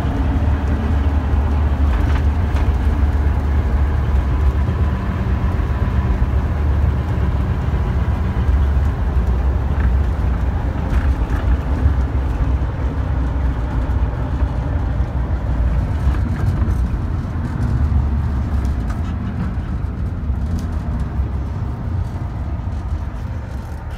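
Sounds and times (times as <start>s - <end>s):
road and body noise: 0.0s - 23.9s
van engine rumbling inside cabin: 0.0s - 23.9s.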